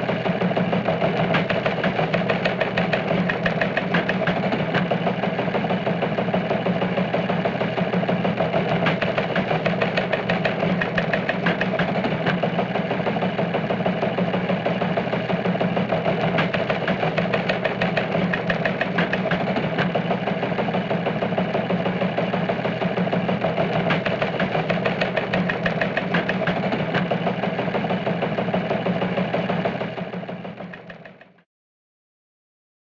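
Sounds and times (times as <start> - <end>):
engine idling with ticking: 0.0 - 31.4.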